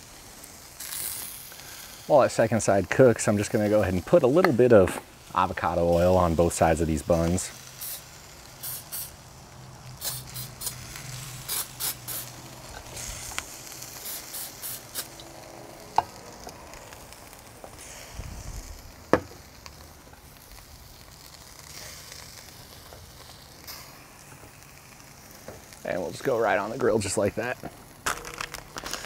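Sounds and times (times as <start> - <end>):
patties sizzling on a grill: 0.0 - 29.0.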